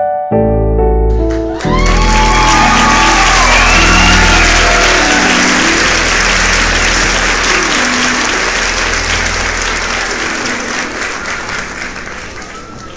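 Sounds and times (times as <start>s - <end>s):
music track: 0.0s - 12.9s
crowd applauding: 1.1s - 12.9s.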